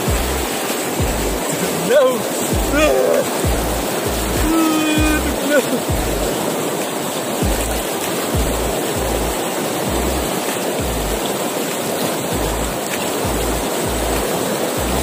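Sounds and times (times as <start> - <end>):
river rapids roaring: 0.0 - 15.0.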